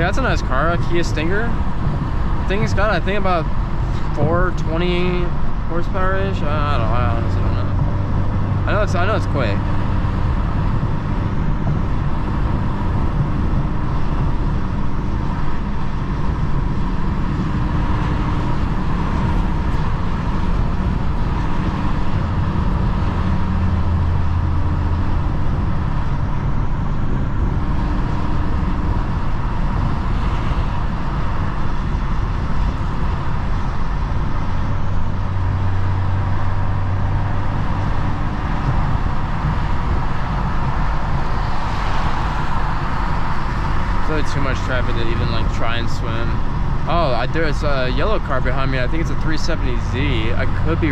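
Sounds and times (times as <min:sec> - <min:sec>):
car engine hum: 0:00.0 - 0:50.9
road and tyre noise: 0:00.0 - 0:50.9.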